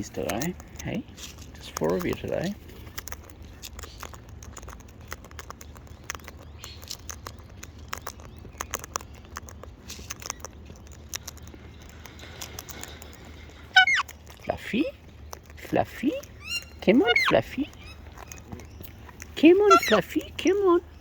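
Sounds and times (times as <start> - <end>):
birds pecking and cracking seed: 0.0 - 21.0.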